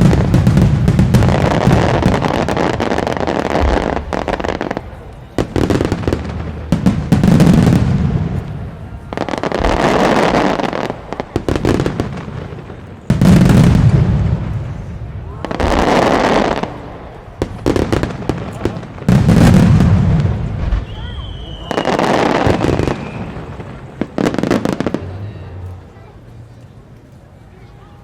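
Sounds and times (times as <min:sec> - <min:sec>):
fireworks booming: 0:00.0 - 0:25.6
fireworks crackling and popping: 0:00.0 - 0:27.5.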